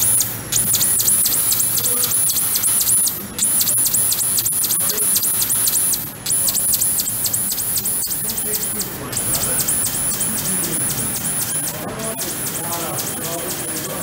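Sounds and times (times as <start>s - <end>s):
laser cutter motors whining: 0.0s - 14.0s
steady air hiss: 0.0s - 14.0s.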